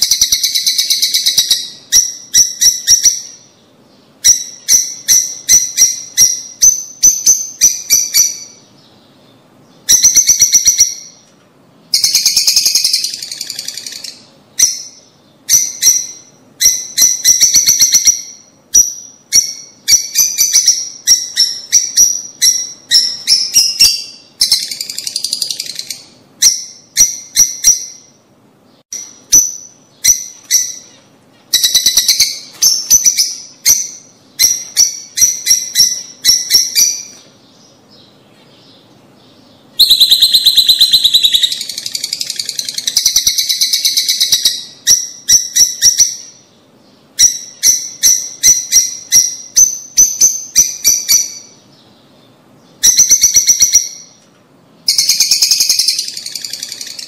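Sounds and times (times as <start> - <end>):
lovebirds chirping shrilly: 0.0 - 54.2, 54.8 - 57.0.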